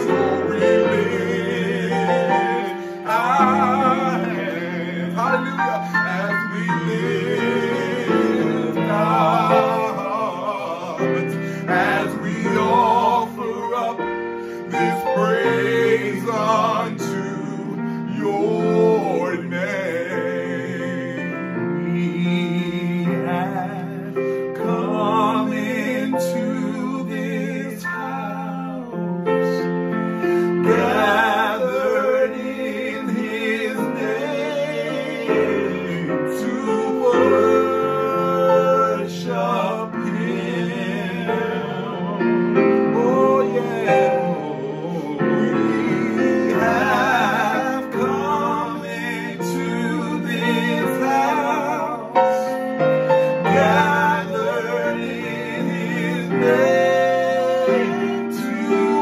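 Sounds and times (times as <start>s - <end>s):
men singing gospel song: 0.0s - 59.0s.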